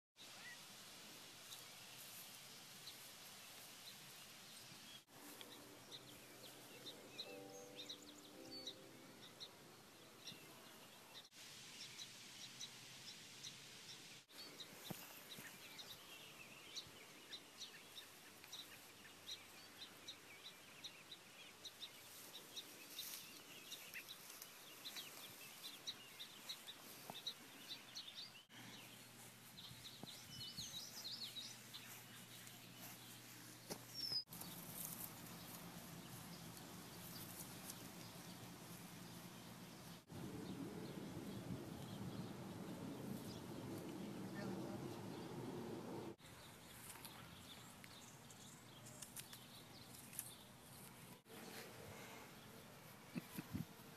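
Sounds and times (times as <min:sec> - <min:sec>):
birds chirping: 0:04.5 - 0:53.9.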